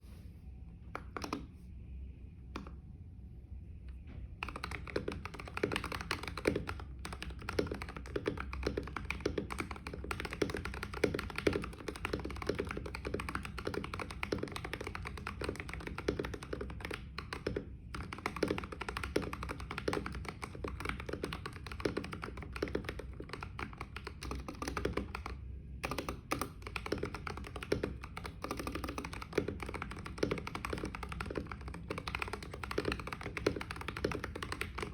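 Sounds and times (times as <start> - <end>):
typing on mechanical keyboard: 1.0 - 1.5, 4.4 - 34.9.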